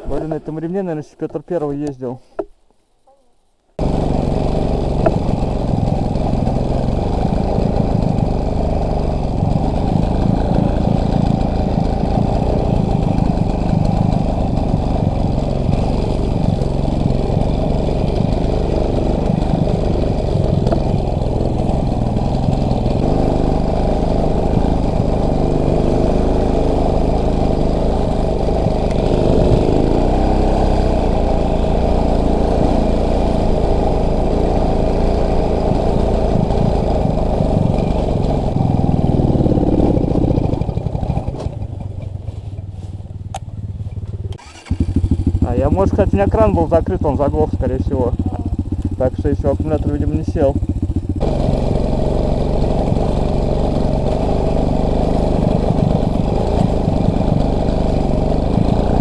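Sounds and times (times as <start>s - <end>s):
motorcycle engine running: 3.8s - 59.0s.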